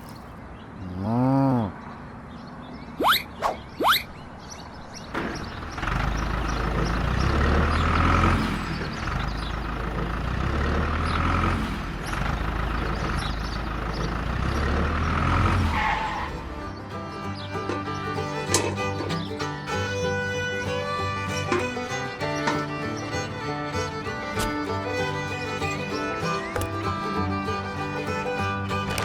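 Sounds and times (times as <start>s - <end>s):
vehicle engine running: 5.0s - 29.0s.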